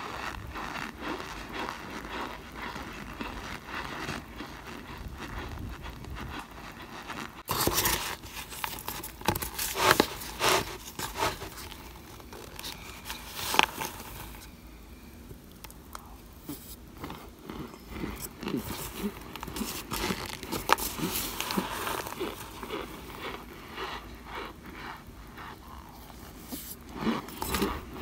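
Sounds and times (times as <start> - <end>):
spoon crunching cornstarch: 0.0 - 14.7, 15.5 - 28.0.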